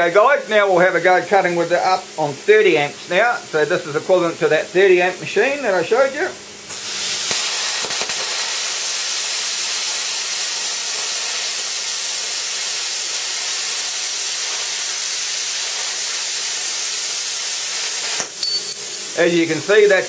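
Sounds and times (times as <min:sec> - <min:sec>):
plasma cutter hissing: 0:00.0 - 0:20.0.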